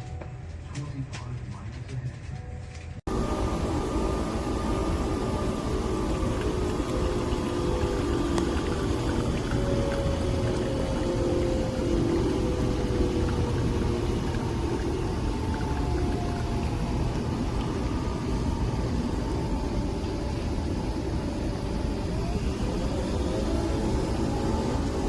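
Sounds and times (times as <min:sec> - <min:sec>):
coffee machine motor humming: 0:03.1 - 0:25.0.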